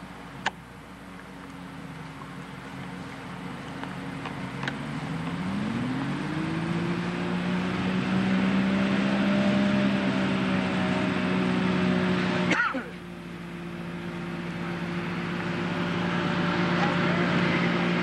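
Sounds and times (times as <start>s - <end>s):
two-stroke aircraft engine running: 0.0s - 18.0s.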